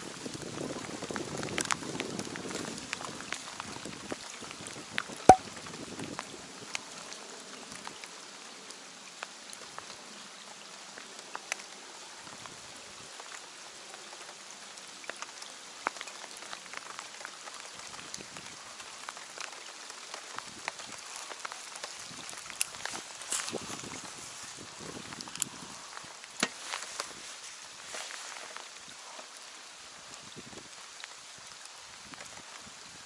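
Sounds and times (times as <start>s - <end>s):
rain falling on a lake: 0.0s - 33.0s.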